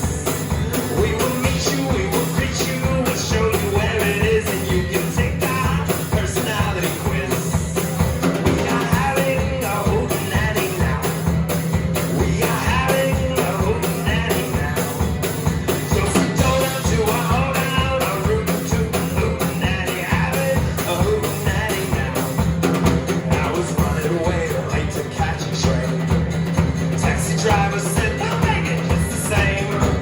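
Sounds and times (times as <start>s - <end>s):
acoustic guitar strumming: 0.0s - 30.0s
drum kit beat: 0.0s - 30.0s.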